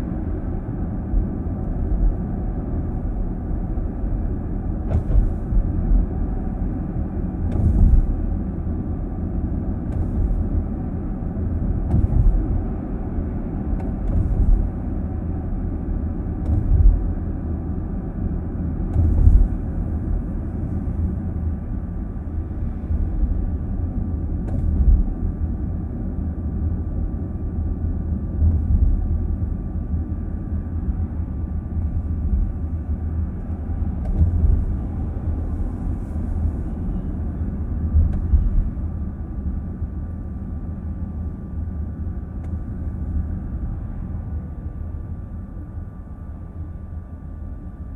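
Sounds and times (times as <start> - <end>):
car cabin road rumble: 0.0 - 47.9.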